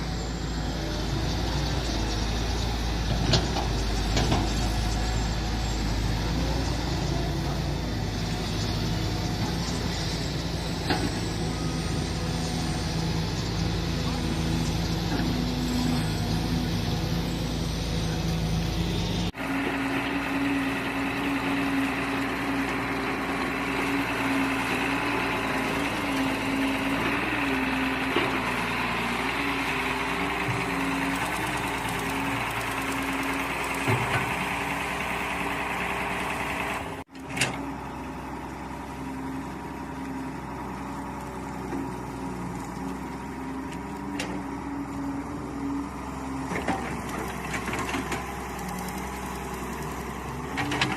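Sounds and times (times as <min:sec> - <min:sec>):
excavator engine running: 0:00.0 - 0:50.9.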